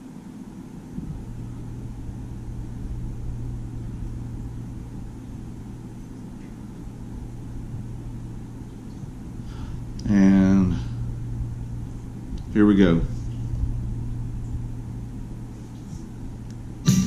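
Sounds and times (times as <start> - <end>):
faint rumbling: 0.0 - 17.0
steady low hum: 0.0 - 17.0.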